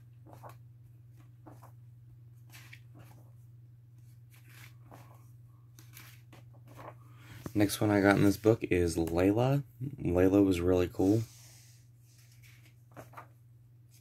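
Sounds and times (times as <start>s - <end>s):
book pages rustling: 0.1s - 3.4s, 4.0s - 9.3s, 11.0s - 14.0s.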